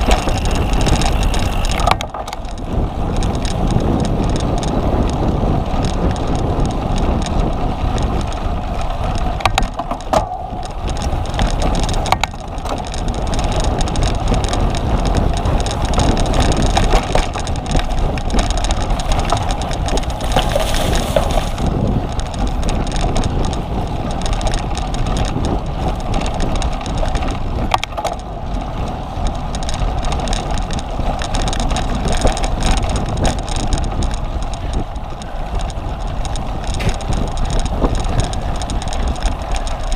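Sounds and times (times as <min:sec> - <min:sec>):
bicycle knocking over bumps: 0:00.0 - 0:39.9
bicycle tyre and drivetrain rattle: 0:00.0 - 0:39.9
low rumble: 0:00.0 - 0:39.9.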